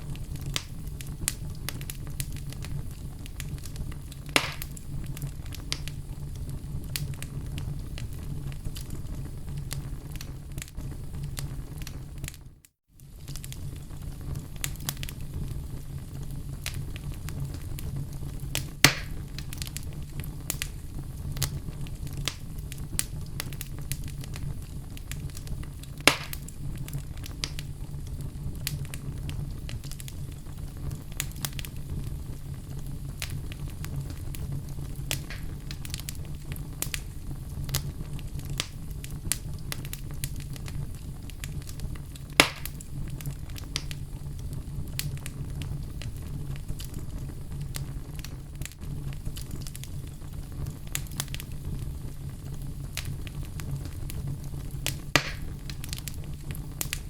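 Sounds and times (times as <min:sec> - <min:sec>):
logs crackling in fire: 0:00.0 - 0:57.0
loud fire pops: 0:00.0 - 0:57.0
low fire rumble: 0:00.0 - 0:57.0.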